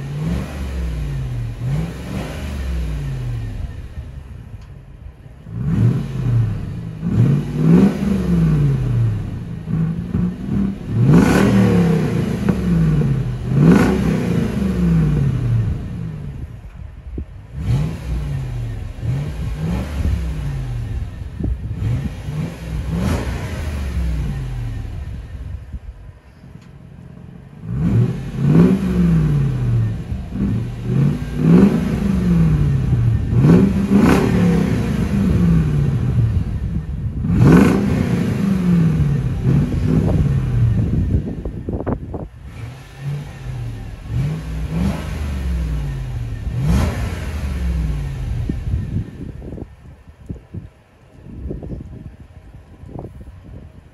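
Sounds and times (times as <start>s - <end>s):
car engine revving: 0.0s - 26.0s, 26.9s - 49.8s.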